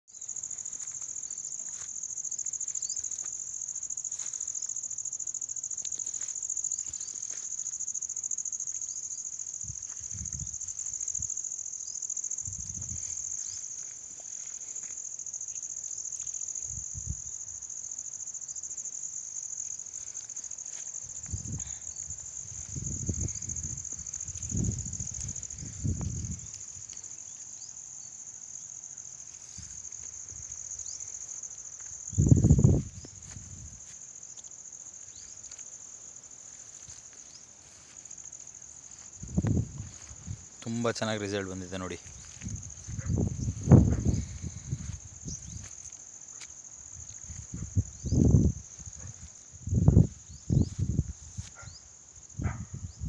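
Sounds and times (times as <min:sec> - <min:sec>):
insects droning: 0:00.1 - 0:53.0.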